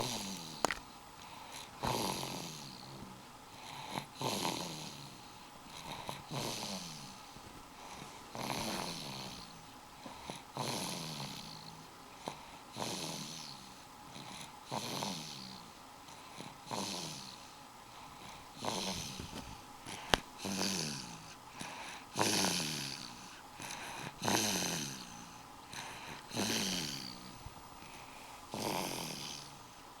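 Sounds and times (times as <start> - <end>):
child snoring: 0.0 - 29.8.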